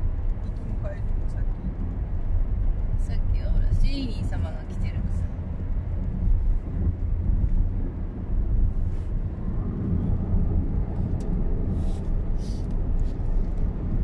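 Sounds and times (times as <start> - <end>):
car road and tyre noise: 0.0 - 14.0.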